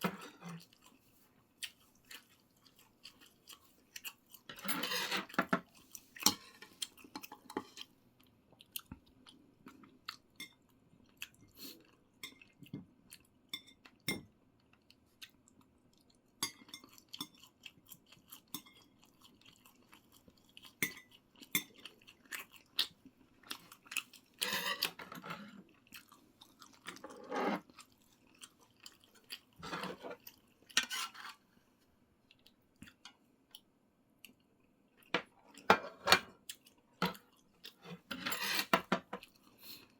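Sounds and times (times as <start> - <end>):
person chewing food: 0.0 - 38.1, 39.0 - 39.9.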